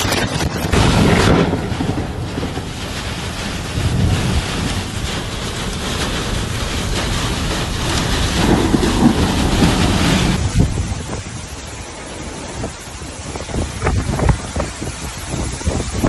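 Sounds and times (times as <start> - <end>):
heavy rain falling: 0.0 - 16.0
wind buffeting microphone: 0.0 - 16.0.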